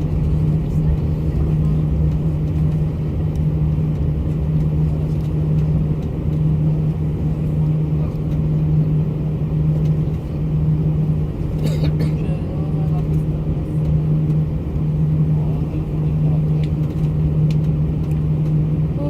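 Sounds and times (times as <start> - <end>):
airliner engines droning: 0.0 - 19.0
constant hum: 0.0 - 19.0.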